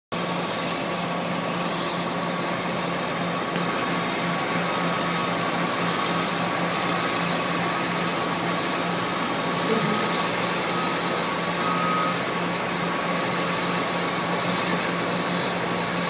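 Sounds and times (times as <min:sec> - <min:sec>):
diesel engine running: 0:00.1 - 0:16.0
high whine: 0:00.2 - 0:16.0.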